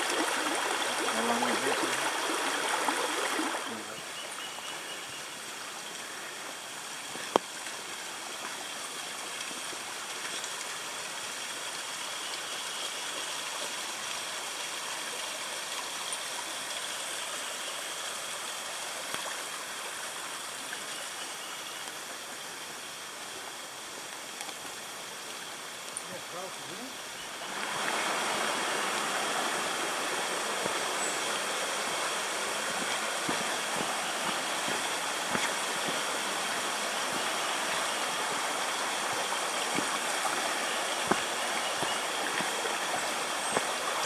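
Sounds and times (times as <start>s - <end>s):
stream flowing over rocks: 0.0s - 44.0s.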